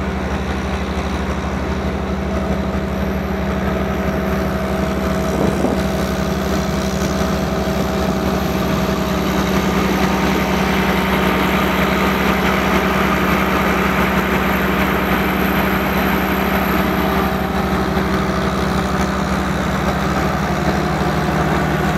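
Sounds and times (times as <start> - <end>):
generator engine humming: 0.0 - 21.9.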